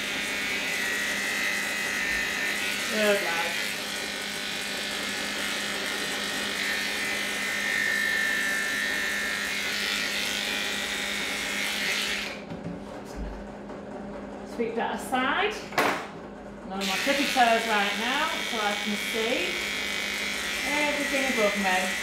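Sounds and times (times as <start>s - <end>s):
electric clippers buzzing: 0.0s - 12.5s, 16.8s - 22.0s.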